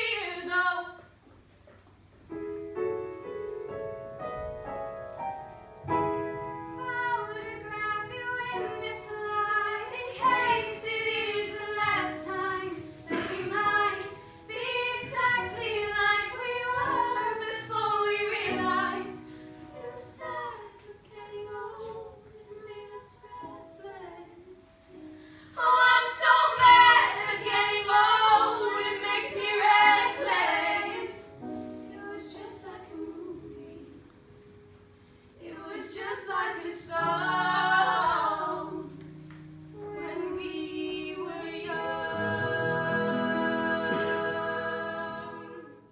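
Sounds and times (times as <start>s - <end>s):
women singing together: 0.0s - 1.1s, 6.8s - 34.2s, 35.4s - 39.2s, 39.8s - 45.9s.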